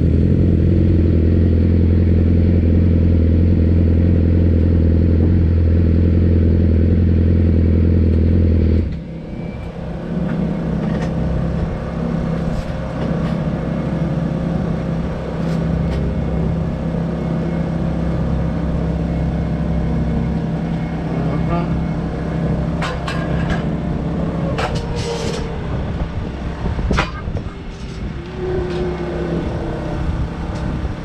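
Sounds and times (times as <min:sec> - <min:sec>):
engine running in background: 0:00.0 - 0:31.0.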